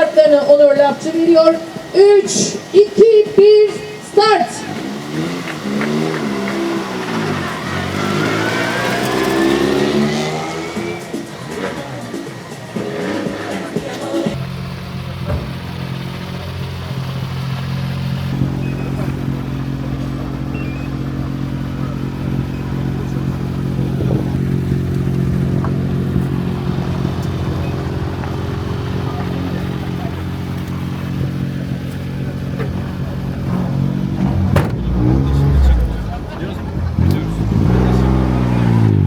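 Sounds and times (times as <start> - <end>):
rally car engine running: 0.0 - 39.0.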